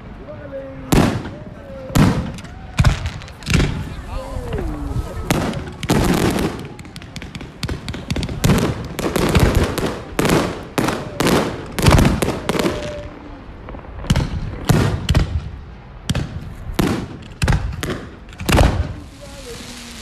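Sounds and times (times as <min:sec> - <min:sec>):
fireworks bangs: 0:00.8 - 0:20.0.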